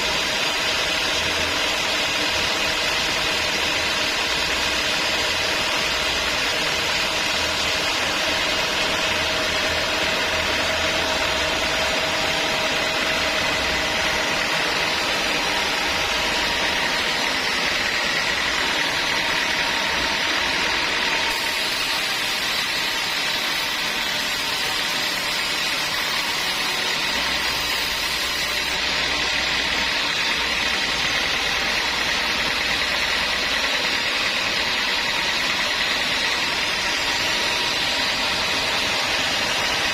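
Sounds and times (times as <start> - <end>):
sawmill motor drone with whine: 0.0 - 39.9.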